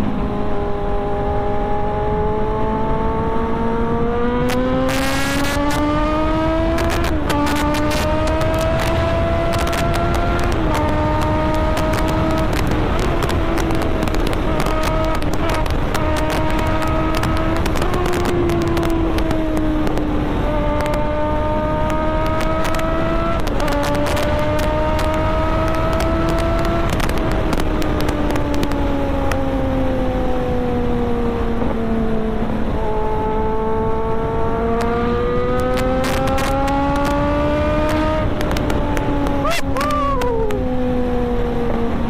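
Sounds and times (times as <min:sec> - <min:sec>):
motorcycle engine running hard: 0:00.0 - 0:42.0
rush of wind: 0:00.0 - 0:42.0.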